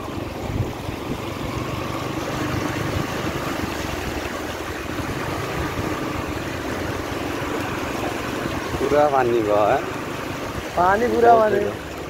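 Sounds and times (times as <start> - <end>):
motorcycle engine at low speed: 0.0 - 12.0
wheels splashing through water: 0.0 - 12.0.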